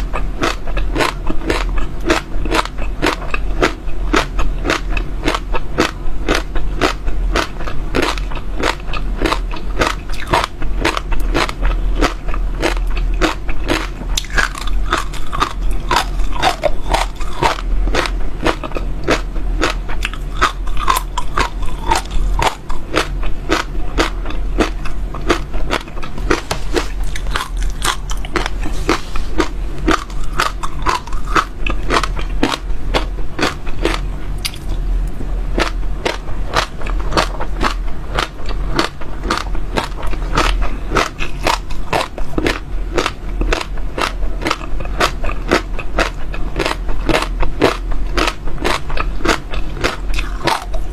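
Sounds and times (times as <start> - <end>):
chewing crunchy seeds: 0.0 - 50.9
steady low hum: 0.0 - 50.9.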